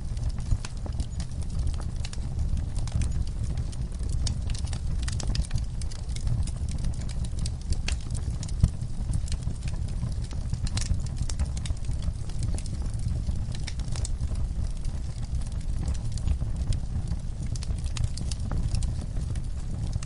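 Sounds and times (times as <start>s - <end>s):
fire low rumble: 0.0s - 20.0s
wood fire crackling and popping: 0.0s - 20.0s.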